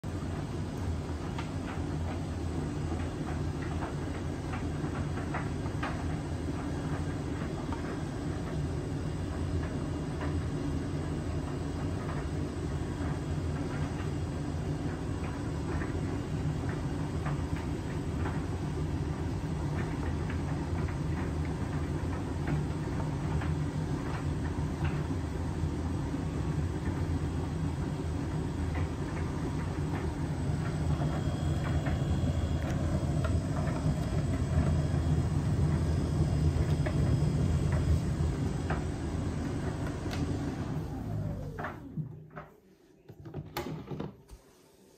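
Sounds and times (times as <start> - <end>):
tumble dryer humming: 0.0 - 42.5.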